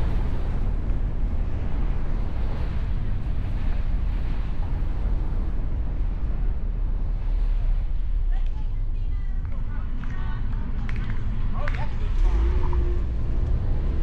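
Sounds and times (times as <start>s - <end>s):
car engine rumble: 0.0s - 14.0s
road noise: 0.0s - 14.0s
wind on microphone: 0.0s - 14.0s.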